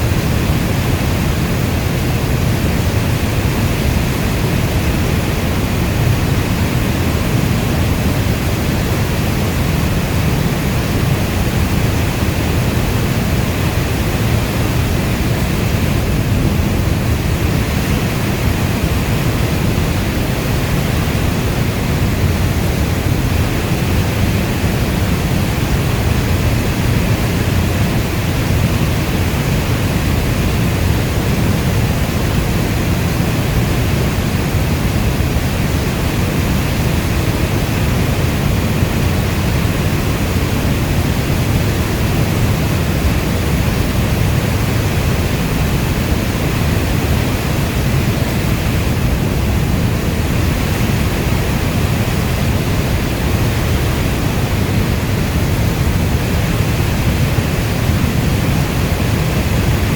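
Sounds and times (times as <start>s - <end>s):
heavy rainstorm: 0.0s - 59.9s.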